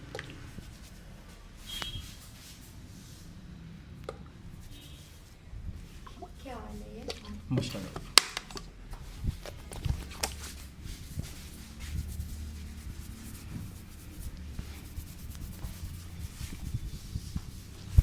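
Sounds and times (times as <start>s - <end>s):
hands rubbing hair and scalp: 0.4s - 3.3s, 4.4s - 7.1s, 8.9s - 18.0s.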